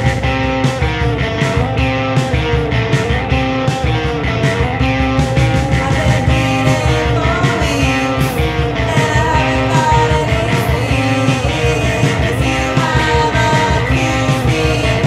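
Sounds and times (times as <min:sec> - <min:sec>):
grunge rock song: 0:00.0 - 0:15.0.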